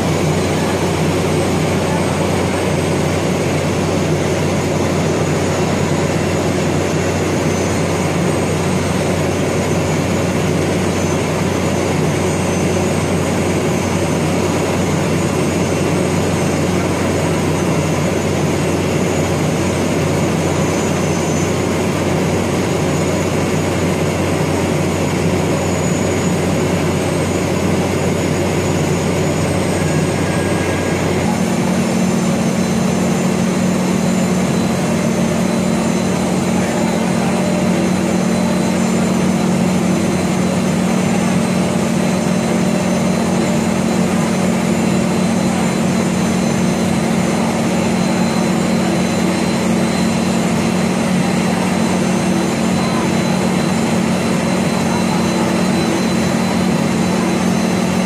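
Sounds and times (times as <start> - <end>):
heavy machinery drone: 0.0 - 58.0.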